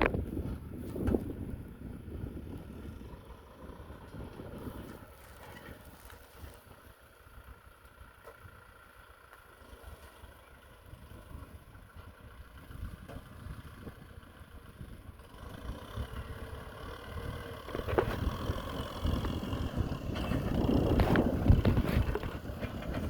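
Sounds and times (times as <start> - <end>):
wind rumbling on microphone: 0.0 - 7.8, 10.8 - 23.0
tractor diesel engine running: 0.0 - 23.0.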